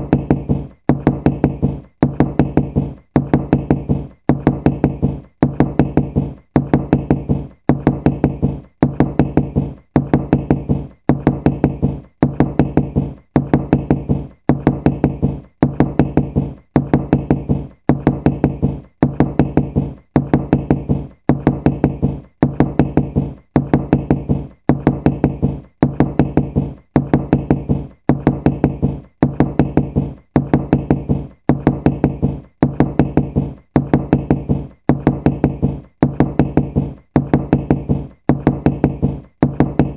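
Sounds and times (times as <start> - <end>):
knocking raps: 0.0 - 39.9.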